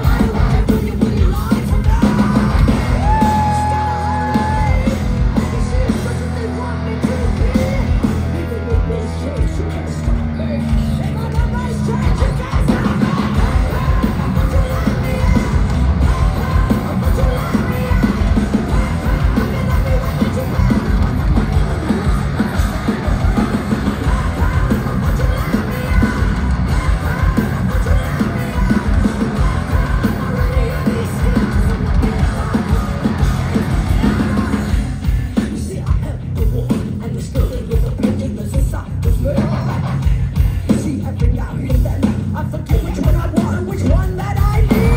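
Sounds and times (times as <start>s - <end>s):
metal band playing live: 0.0s - 44.9s
person singing: 0.0s - 44.9s.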